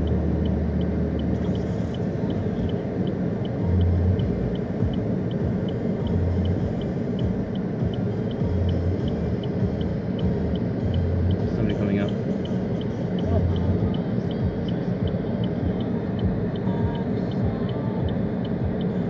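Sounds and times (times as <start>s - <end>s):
deep hum: 0.0s - 19.0s
diesel locomotive rumble: 0.0s - 19.0s.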